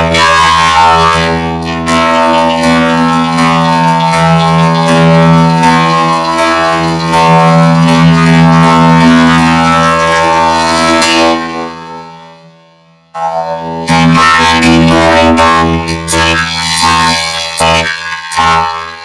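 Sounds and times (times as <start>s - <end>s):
droning processed music chord: 0.0s - 19.0s.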